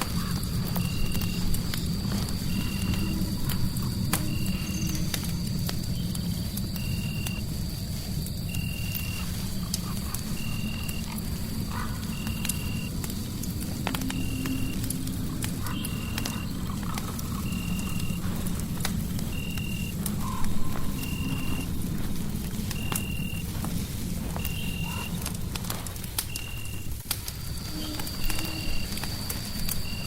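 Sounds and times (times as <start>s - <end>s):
fireplace crackling: 0.0s - 30.0s.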